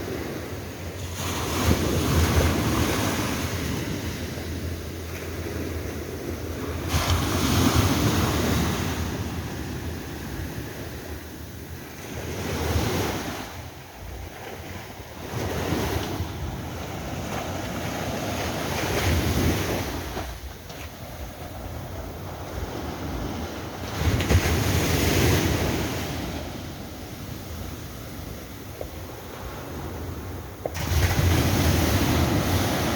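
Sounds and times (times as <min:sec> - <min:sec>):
surf washing onto shore: 0:00.0 - 0:32.9
wind rumble on microphone: 0:00.0 - 0:32.9.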